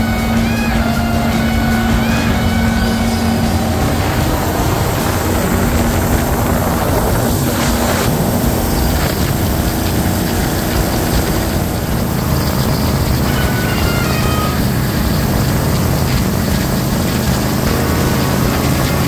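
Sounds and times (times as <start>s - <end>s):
boat engine running: 0.0s - 19.0s
rushing water and spray: 0.0s - 19.0s.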